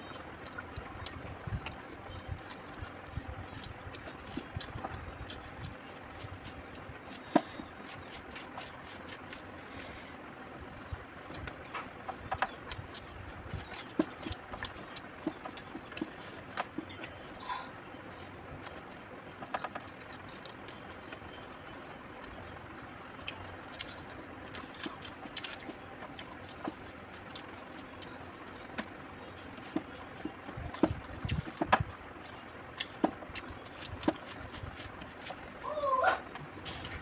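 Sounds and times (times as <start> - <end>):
chewing and mouth clicks: 0.0 - 9.8, 10.6 - 17.4, 18.0 - 36.5.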